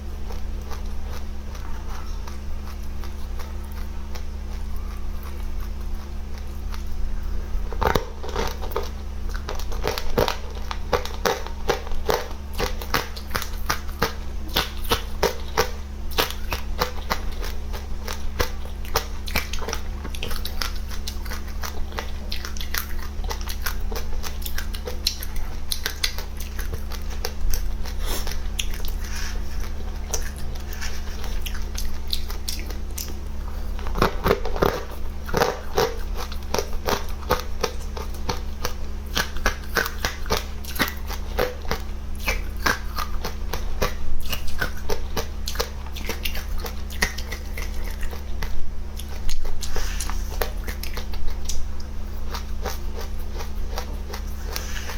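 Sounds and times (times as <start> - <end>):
low hum: 0.0 - 54.9
person chewing and crunching seeds: 0.0 - 54.9.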